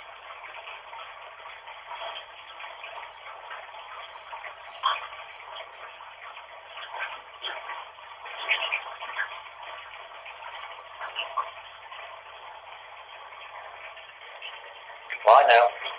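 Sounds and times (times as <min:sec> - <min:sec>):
bath water running from tap: 0:00.0 - 0:15.1.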